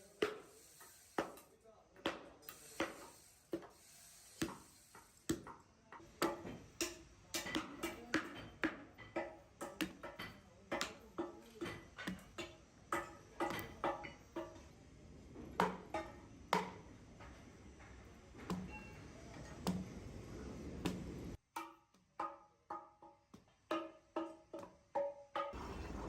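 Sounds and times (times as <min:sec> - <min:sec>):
low workshop hum: 0:00.0 - 0:26.0.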